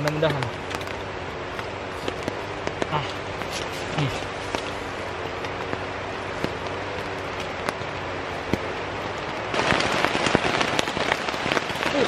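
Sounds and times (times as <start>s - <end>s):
heavy rain on a tent: 0.0s - 12.0s.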